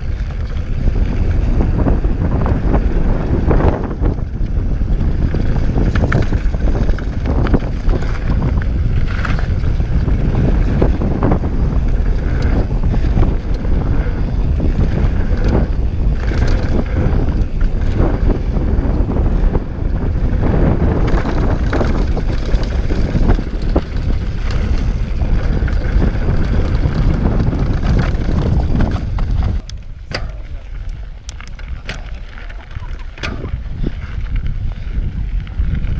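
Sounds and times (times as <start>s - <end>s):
bike clicks and rattles: 0.0s - 35.9s
bike tyres on rocky trail: 0.0s - 35.9s
wind buffeting microphone: 0.0s - 35.9s.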